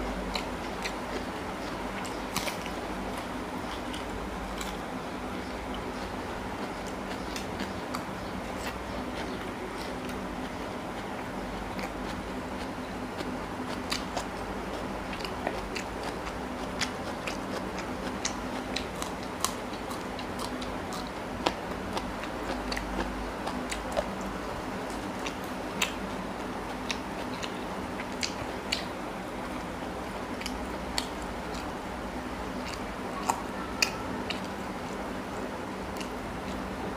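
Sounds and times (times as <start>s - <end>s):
chewing with wet smacks: 0.0s - 36.9s
steady low hum: 0.0s - 36.9s.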